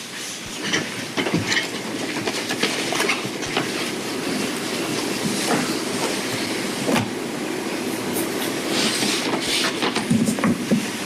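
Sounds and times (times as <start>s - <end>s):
steady noisy hum: 0.0s - 11.0s.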